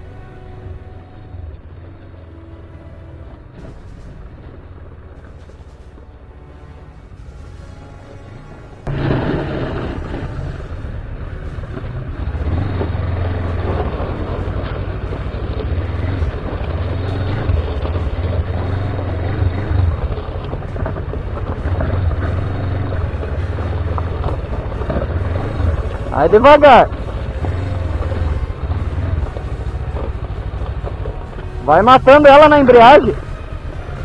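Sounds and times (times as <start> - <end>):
motorcycle engines running: 0.0 - 34.0.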